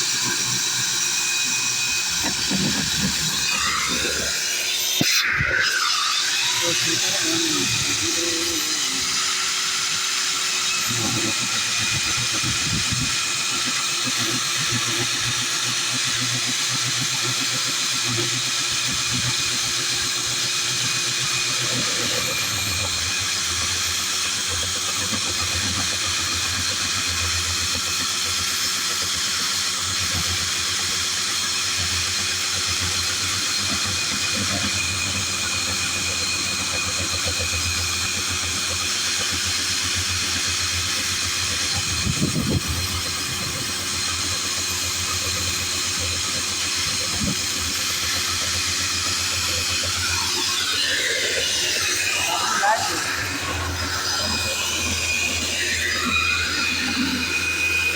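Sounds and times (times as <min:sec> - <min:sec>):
core drill whining: 0:00.0 - 0:57.9
drill bit grinding rumble: 0:00.0 - 0:57.9.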